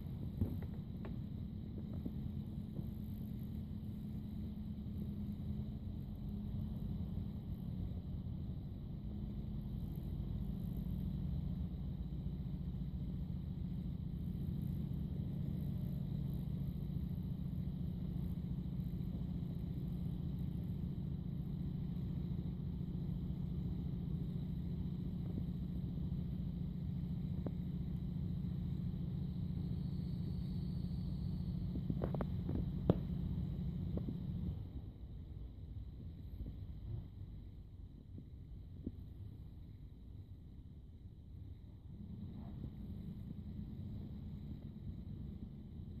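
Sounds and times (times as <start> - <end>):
faint high whine: 0.0 - 46.0
low mechanical hum: 0.0 - 46.0.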